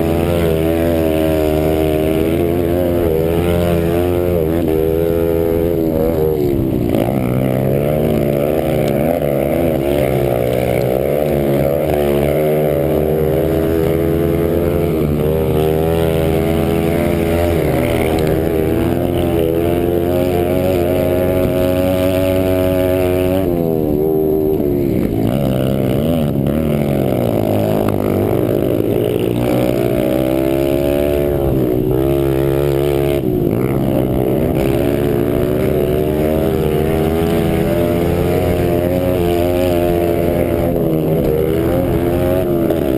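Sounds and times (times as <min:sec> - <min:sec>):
motorbike engine revving: 0:00.0 - 0:42.9.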